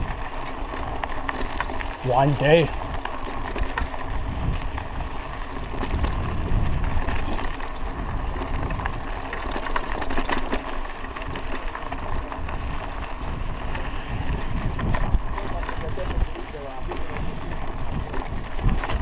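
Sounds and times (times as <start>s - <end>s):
bicycle tyres rolling on dirt road: 0.0s - 19.0s
bike rattling: 0.0s - 19.0s.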